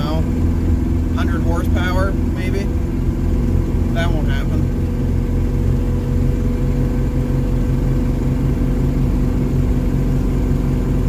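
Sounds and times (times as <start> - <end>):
diesel car engine driving: 0.0 - 11.0.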